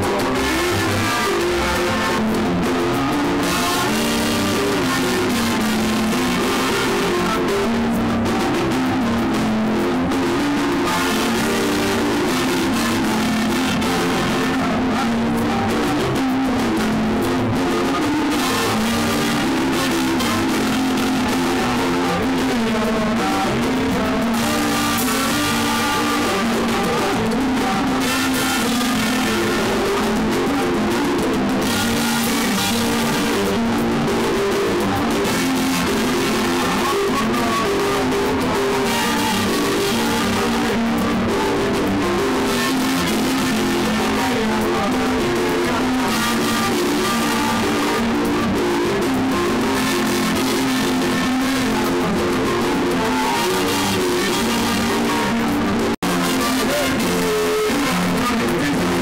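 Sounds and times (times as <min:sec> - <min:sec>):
guitar: 0:00.0 - 0:59.0
live band music: 0:00.0 - 0:59.0.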